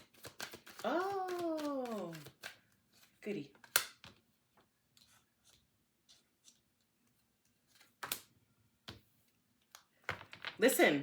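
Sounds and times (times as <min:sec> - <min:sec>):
cards rustling and clicking: 0:00.0 - 0:10.6.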